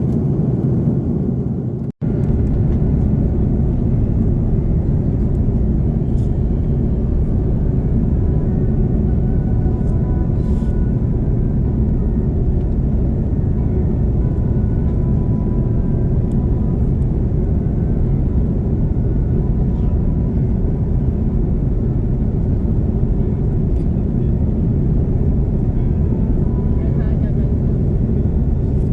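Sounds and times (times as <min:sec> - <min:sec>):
jet engine cabin rumble: 0:00.0 - 0:28.9.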